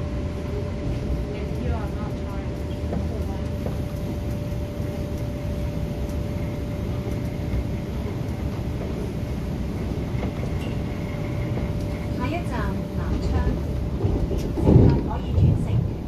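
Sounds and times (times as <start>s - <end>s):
low rumble of wheels on rail: 0.0s - 16.0s.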